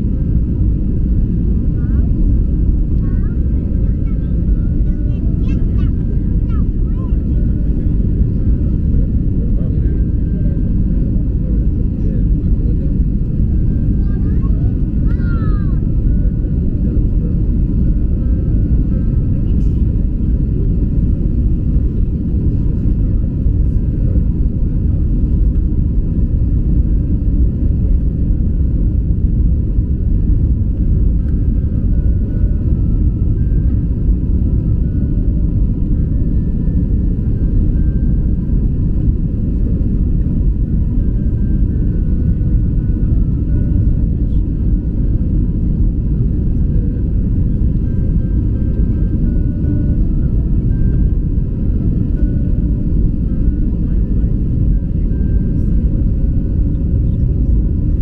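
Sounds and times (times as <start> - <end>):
jet airliner cabin rumble: 0.0 - 58.0.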